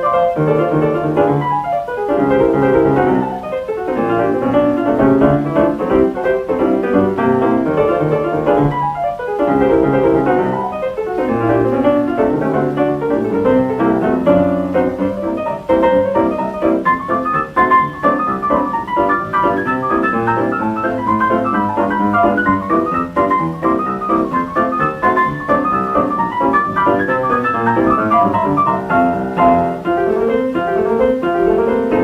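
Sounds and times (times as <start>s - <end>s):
ragtime stride piano on old record: 0.0s - 32.0s.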